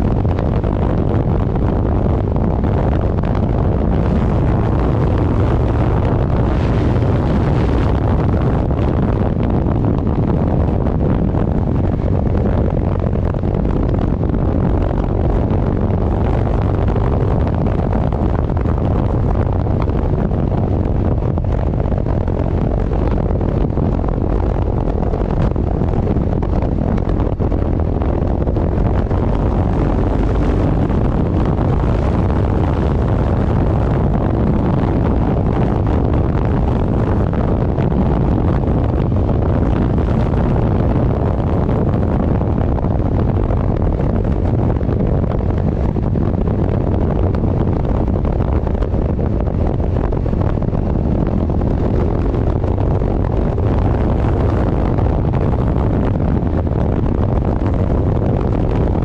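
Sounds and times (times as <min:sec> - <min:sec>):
engine and road rumble: 0:00.0 - 0:59.0
wind buffeting microphone: 0:00.0 - 0:59.0.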